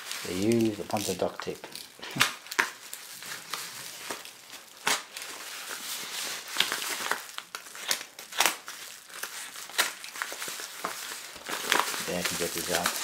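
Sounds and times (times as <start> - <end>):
packaging snapping: 0.0 - 5.8, 6.4 - 13.0
plastic mailer crinkling: 0.0 - 13.0.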